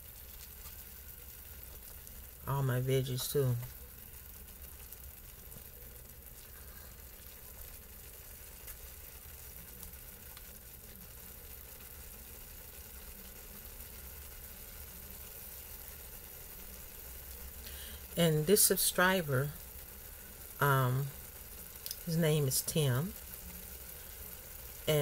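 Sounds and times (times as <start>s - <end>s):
noodles sizzling in a pan: 0.0s - 25.0s.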